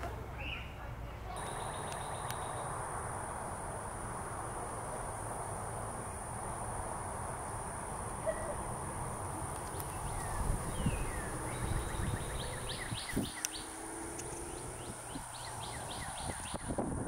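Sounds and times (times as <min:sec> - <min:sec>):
insects trilling: 0:01.4 - 0:16.8.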